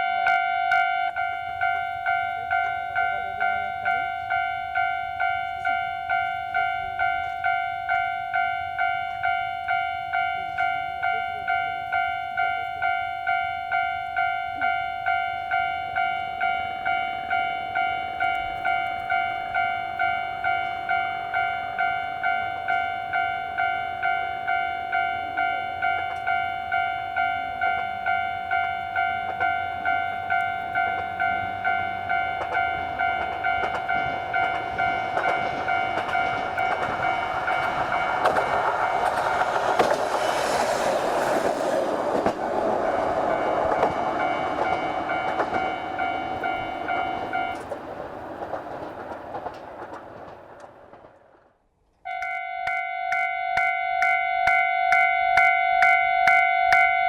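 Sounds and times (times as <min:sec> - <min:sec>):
level crossing bell dinging: 0:00.0 - 0:39.4, 0:43.2 - 0:47.6, 0:52.1 - 0:57.0
diesel railcar rumble and wheels: 0:00.0 - 0:57.0.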